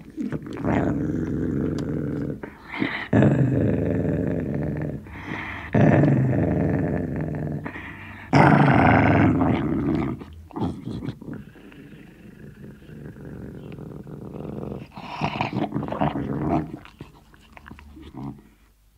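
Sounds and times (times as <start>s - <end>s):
dog growling: 0.0s - 18.6s.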